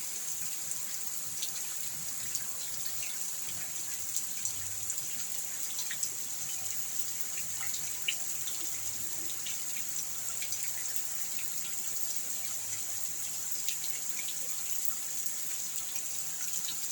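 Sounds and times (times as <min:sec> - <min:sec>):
rain drips and patters: 0:00.0 - 0:16.9.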